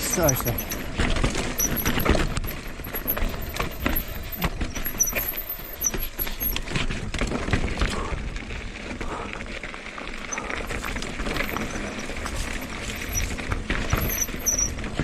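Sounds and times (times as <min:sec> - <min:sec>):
bike knocking and clattering: 0:00.0 - 0:15.0
tyres rolling over stones: 0:00.0 - 0:15.0.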